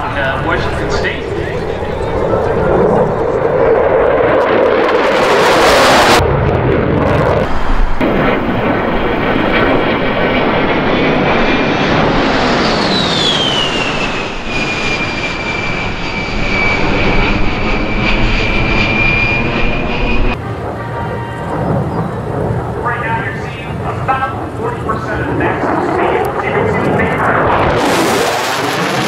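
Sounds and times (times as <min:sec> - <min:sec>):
high turbofan whine: 0:00.0 - 0:29.0
jets flying over: 0:00.0 - 0:29.0.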